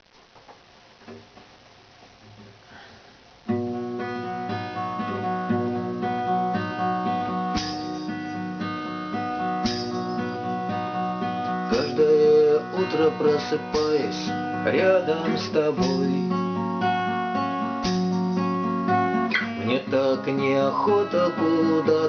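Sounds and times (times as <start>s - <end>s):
acoustic guitar strumming: 3.4s - 22.0s.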